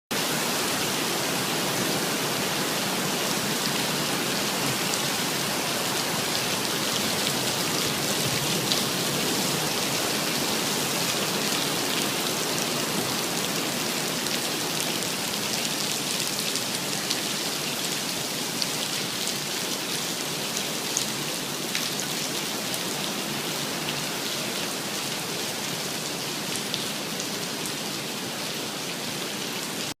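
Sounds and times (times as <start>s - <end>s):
torrential rain: 0.1s - 30.0s.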